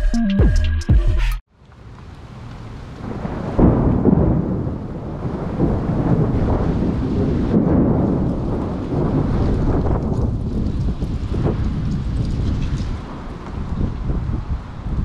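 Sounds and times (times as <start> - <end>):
rain drumming on car roof: 2.0 - 15.0.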